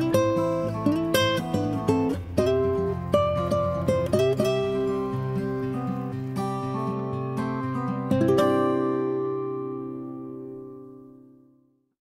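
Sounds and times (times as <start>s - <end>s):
acoustic guitar chord ringing: 0.0s - 11.8s.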